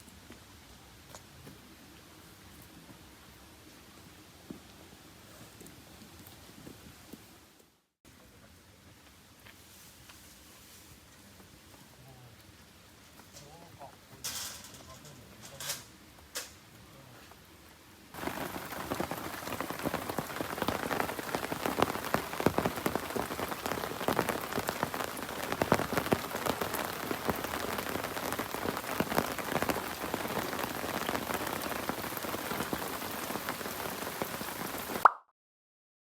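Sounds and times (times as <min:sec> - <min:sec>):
steady rain on a surface: 0:00.0 - 0:07.8, 0:08.5 - 0:35.0.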